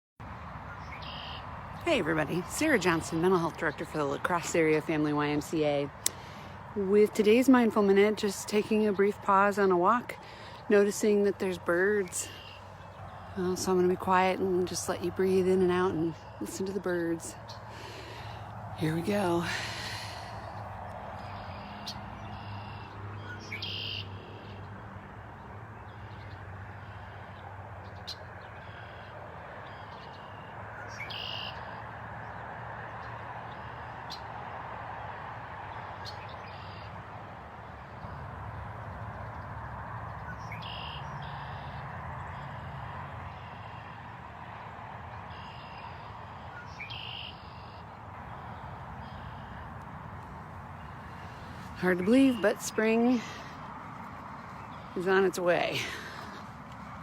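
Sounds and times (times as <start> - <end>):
wild birds calling: 0.5 - 57.0.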